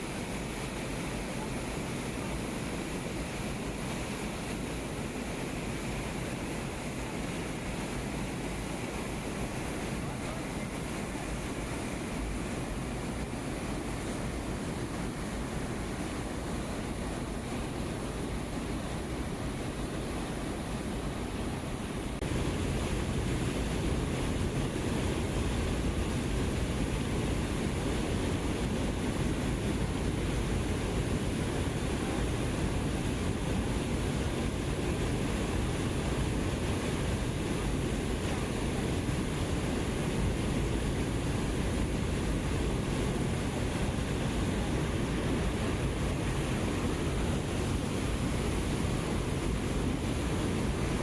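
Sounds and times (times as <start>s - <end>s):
river water rushing: 0.0s - 51.0s
wind: 0.0s - 51.0s.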